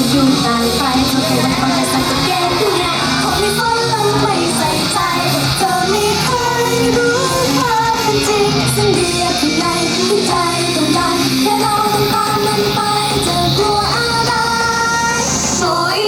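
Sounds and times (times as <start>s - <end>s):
pop music over sound system: 0.0s - 16.0s
women singing pop song: 0.0s - 16.0s.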